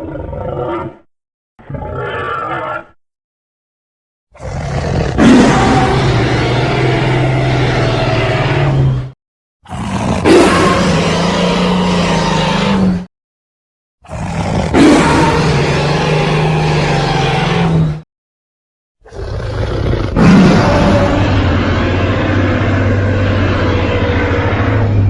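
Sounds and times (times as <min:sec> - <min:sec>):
dinosaur roar: 0:00.0 - 0:03.0, 0:04.4 - 0:09.1, 0:09.7 - 0:13.1, 0:14.0 - 0:18.0, 0:19.0 - 0:25.0.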